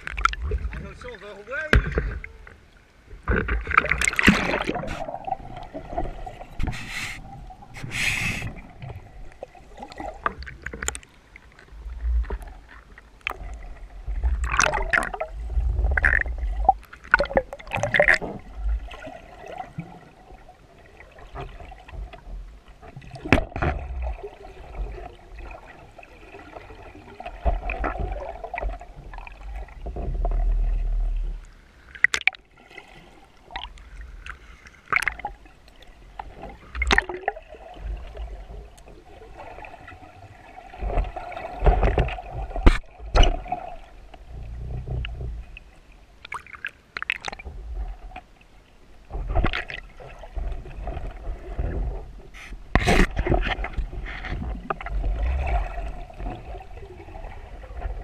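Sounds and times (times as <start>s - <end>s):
water gurgling and bubbling underwater: 0.0s - 58.0s.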